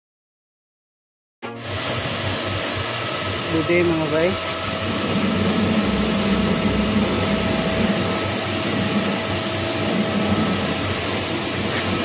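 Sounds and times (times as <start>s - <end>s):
metal lathe running: 1.6s - 12.0s.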